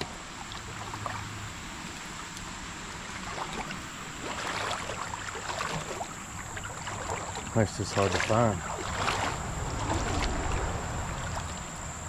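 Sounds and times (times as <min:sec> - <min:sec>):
creek running water: 0:00.0 - 0:12.0.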